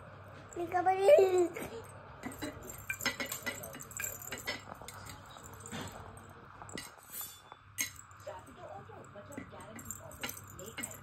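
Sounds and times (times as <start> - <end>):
small metallic clinks: 1.5 - 11.0.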